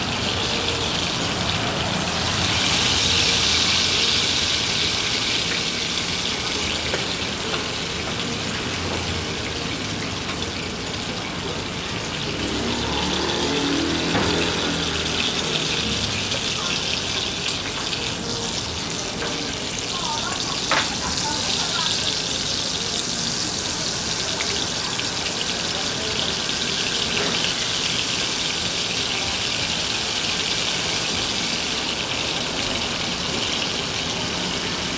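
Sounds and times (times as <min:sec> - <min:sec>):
steak sizzling in a pan: 0:00.5 - 0:11.2, 0:12.3 - 0:34.9.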